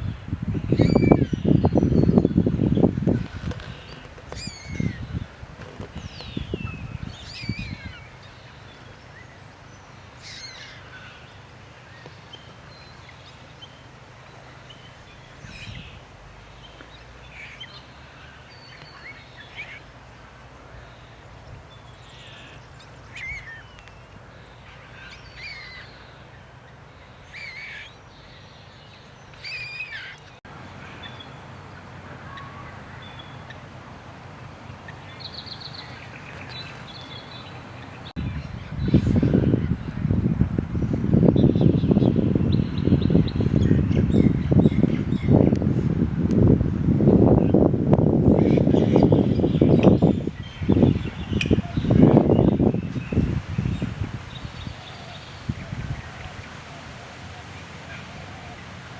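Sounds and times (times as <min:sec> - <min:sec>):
wild birds chirping: 0:00.0 - 0:45.8, 0:47.1 - 0:58.9.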